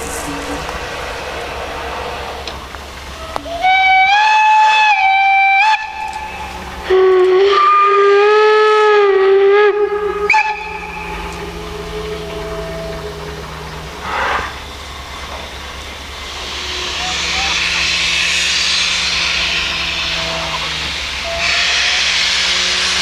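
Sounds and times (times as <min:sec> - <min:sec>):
steam locomotive whistle: 0:00.0 - 0:23.0.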